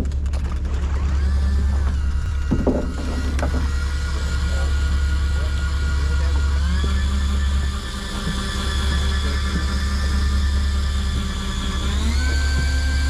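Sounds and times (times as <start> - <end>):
boat engine low drone: 0.0 - 13.0
high motor whine: 0.0 - 13.0.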